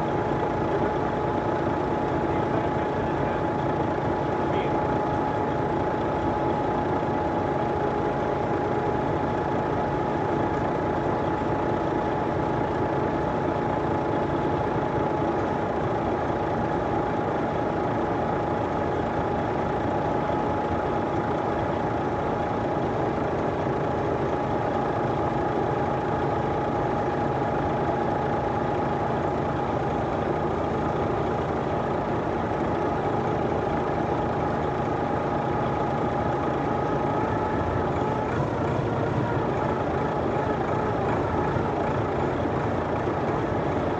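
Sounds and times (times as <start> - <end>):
constant high whine: 0.0 - 43.9
diesel engine idling: 0.0 - 43.9.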